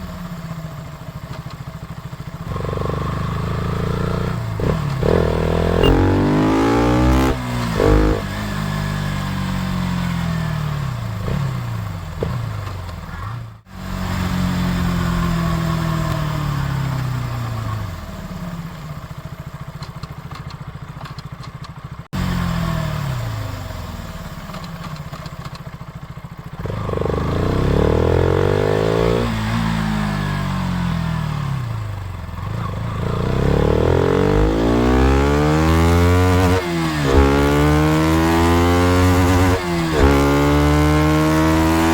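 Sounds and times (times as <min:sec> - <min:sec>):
motorcycle engine revving: 0:01.8 - 0:19.3, 0:21.8 - 0:41.9.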